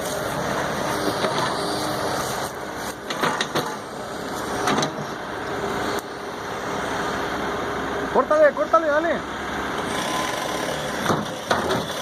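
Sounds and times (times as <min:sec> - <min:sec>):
construction machinery engine running: 0:00.0 - 0:12.0.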